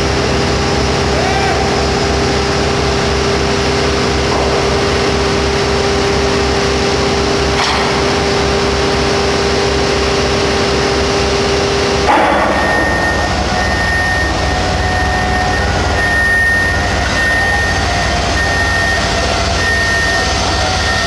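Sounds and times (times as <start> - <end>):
heavy machinery running: 0.0 - 21.0.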